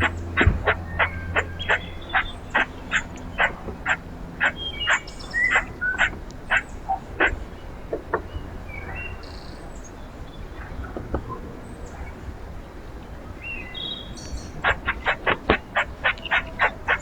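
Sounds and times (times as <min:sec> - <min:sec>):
bird chirps: 0:00.0 - 0:12.2, 0:13.4 - 0:17.0
low outdoor rumble: 0:00.0 - 0:17.0.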